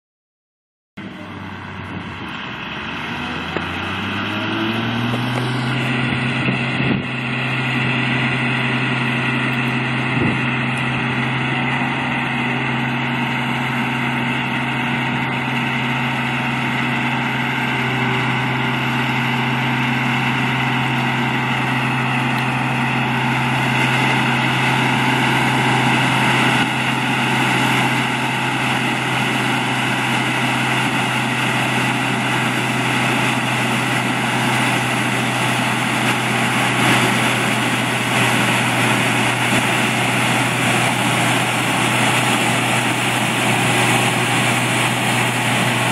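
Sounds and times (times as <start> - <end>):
heavy farm machine engine revving: 1.0 - 45.9.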